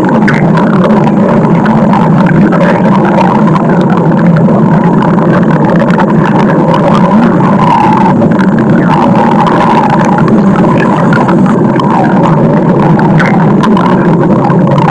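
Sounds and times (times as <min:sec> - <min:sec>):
stomach growling: 0:00.0 - 0:14.9.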